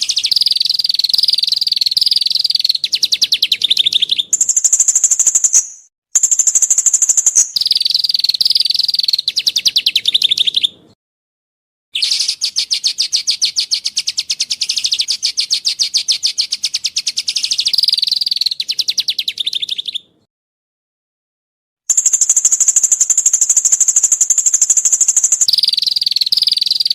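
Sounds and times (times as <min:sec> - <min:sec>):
songbird rattling trills: 0:00.0 - 0:10.7, 0:12.0 - 0:19.8, 0:21.9 - 0:26.9.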